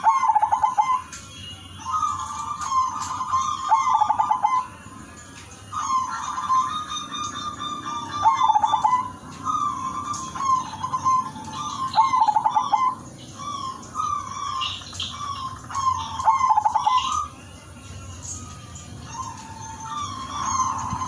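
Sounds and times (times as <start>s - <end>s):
dove cooing: 0.0s - 1.1s, 1.9s - 4.7s, 5.7s - 17.4s, 19.0s - 21.0s.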